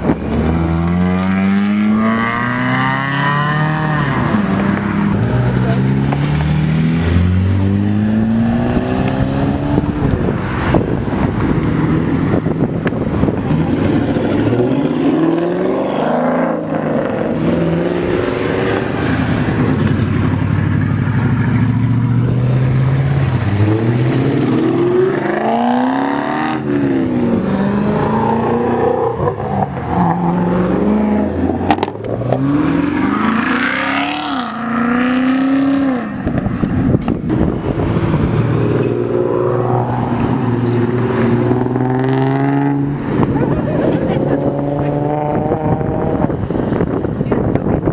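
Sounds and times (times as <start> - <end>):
car engines revving and accelerating: 0.0 - 47.9.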